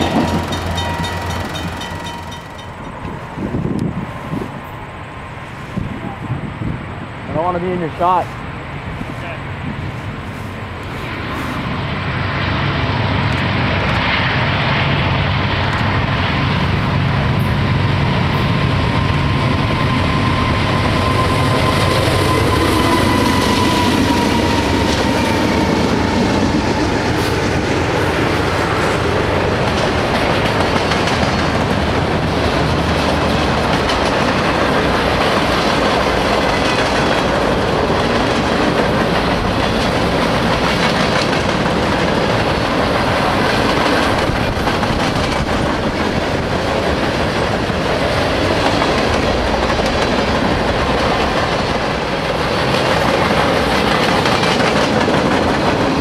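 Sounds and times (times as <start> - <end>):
train wheels clicking over rails: 0.0 - 4.5, 15.6 - 56.0
diesel locomotive engines droning: 0.0 - 56.0.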